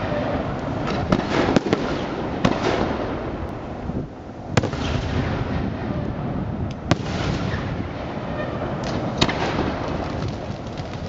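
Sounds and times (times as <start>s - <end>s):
fireworks bangs: 0.0s - 11.0s
fireworks rumble and crackle: 0.0s - 11.0s.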